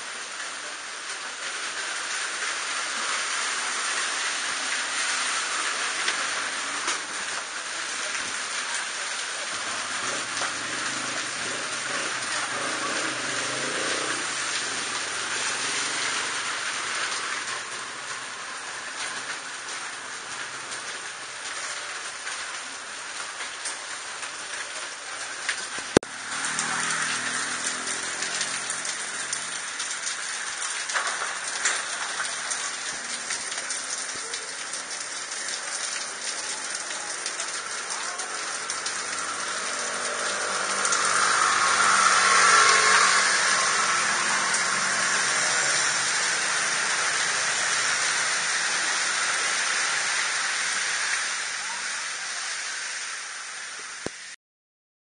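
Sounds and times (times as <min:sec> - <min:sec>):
heavy rain on street and awnings: 0:00.0 - 0:54.4.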